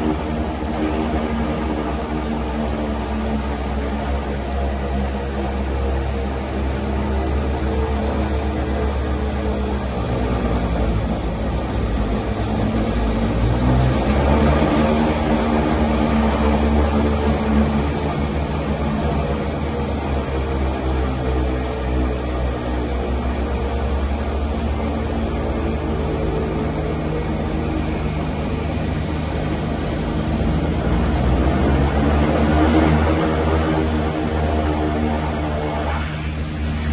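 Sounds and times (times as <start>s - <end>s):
turboprop engines droning: 0.0s - 36.9s.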